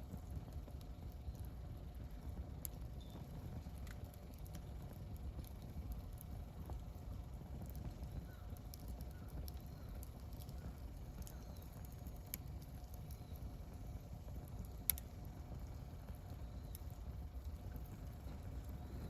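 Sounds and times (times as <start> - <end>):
campfire rumbling: 0.0 - 19.0
fire crackling: 0.0 - 19.0.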